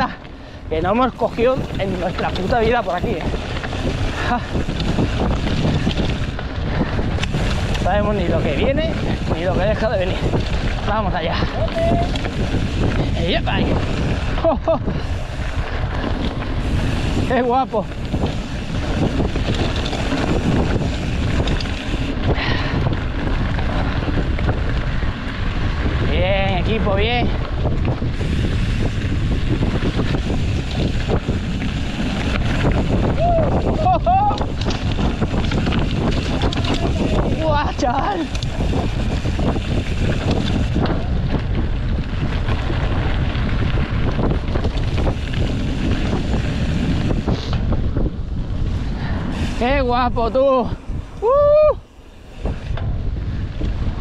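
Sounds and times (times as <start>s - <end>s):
mountain bike rattling on rocks: 0.0s - 51.1s, 51.9s - 54.0s
wind buffeting microphone: 0.0s - 54.0s.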